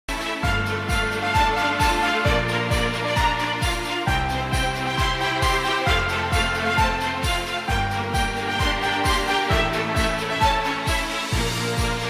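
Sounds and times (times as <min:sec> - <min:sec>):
background music with steady beat: 0:00.1 - 0:12.0.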